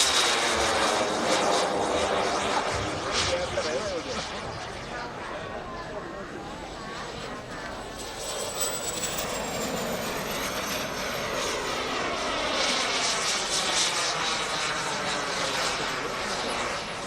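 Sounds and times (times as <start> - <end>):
high turbine whine: 0.0 - 17.0
model jet turbine roaring: 0.0 - 17.0.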